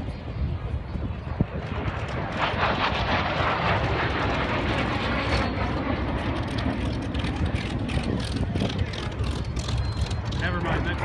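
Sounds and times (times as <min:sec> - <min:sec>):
aircraft engine rumble: 0:00.0 - 0:11.0.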